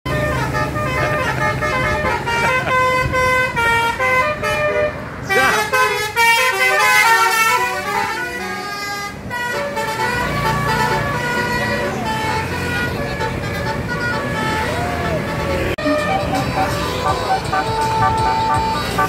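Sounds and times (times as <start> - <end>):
bus engine running: 0.1 - 19.0
musical bus horn melody: 0.1 - 19.0.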